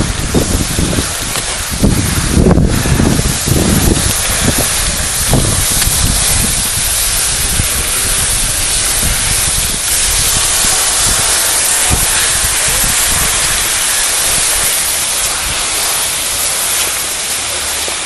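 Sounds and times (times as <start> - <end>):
skis sliding over snow: 0.0 - 18.0
wind buffeting microphone: 0.0 - 18.0.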